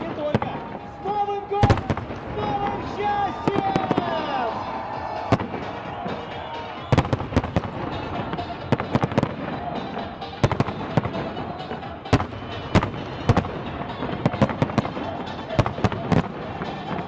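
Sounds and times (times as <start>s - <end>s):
fireworks cracking and banging: 0.0s - 17.0s
music playing: 0.0s - 17.0s.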